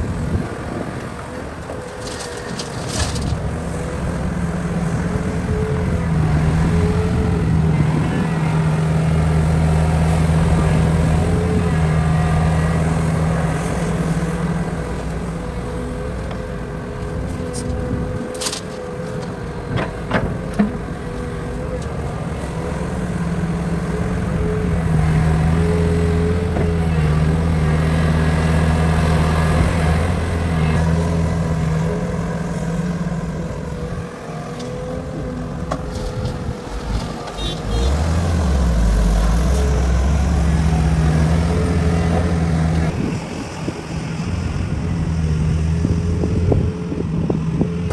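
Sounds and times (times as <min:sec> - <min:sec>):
heavy machine engine running: 0:00.0 - 0:47.9.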